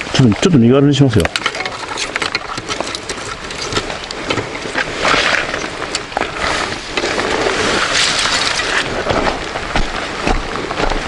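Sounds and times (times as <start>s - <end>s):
luggage rustling and scraping: 1.1s - 11.0s.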